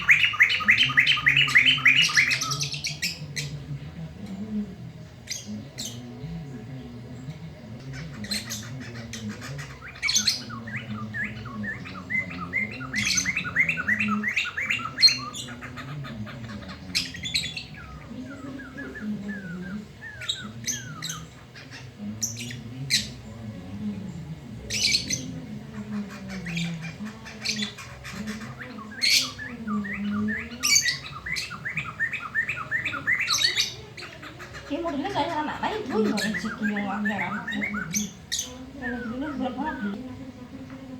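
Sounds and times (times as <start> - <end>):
bird squawking calls: 0.0 - 3.5, 7.8 - 23.2, 24.7 - 40.0
laughingthrush chattering song: 0.0 - 3.7, 5.1 - 40.9.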